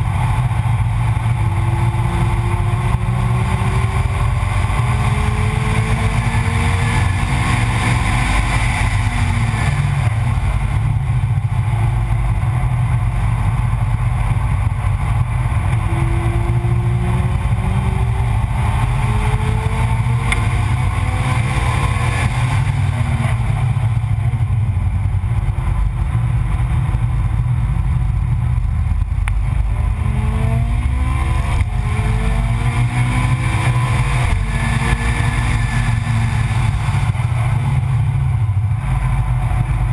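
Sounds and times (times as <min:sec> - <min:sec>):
car engine accelerating: 0:00.0 - 0:39.9
wind rumble on microphone: 0:00.0 - 0:39.9.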